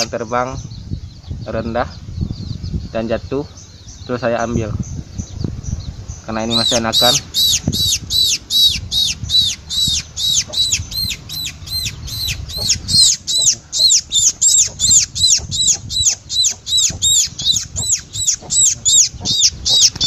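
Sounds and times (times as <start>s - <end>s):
fledgling sparrow chirping: 0.0s - 20.0s.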